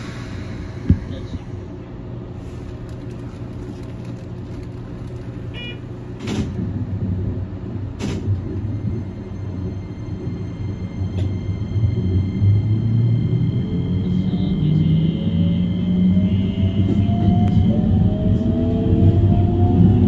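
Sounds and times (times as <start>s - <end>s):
train pulling away: 0.0s - 1.8s, 2.4s - 5.5s, 8.2s - 20.0s
electric train equipment hum: 0.0s - 20.0s.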